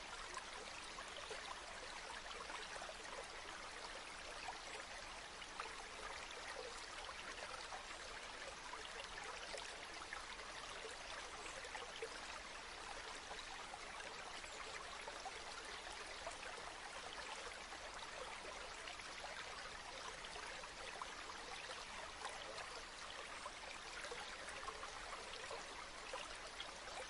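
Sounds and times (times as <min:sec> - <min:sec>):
faint water trickling: 0:00.0 - 0:27.0
river water flowing: 0:00.0 - 0:27.0.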